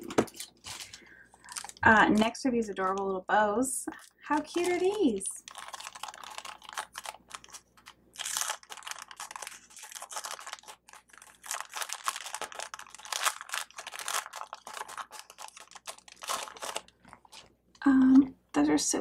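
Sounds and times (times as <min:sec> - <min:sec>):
plastic packaging crinkling: 0:00.0 - 0:03.2, 0:03.8 - 0:17.6.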